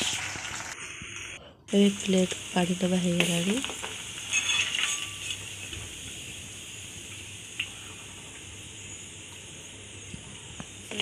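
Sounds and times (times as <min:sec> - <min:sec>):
hot oil sizzling in a wok: 0:00.0 - 0:11.0.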